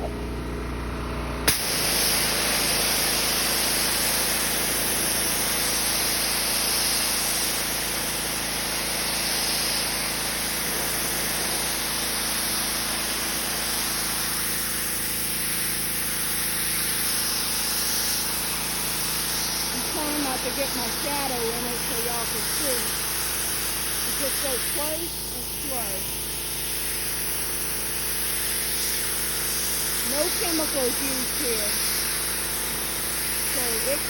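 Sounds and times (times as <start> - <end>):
pressure washer motor humming: 0.0 - 34.0
water jet hissing on boards: 1.5 - 34.0.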